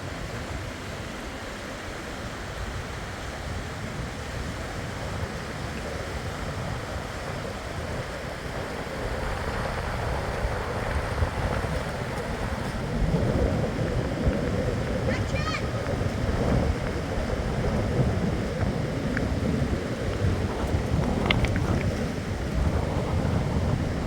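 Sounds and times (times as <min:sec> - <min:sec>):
fast-flowing river rushing: 0:00.0 - 0:24.0
wind on microphone: 0:00.0 - 0:24.0.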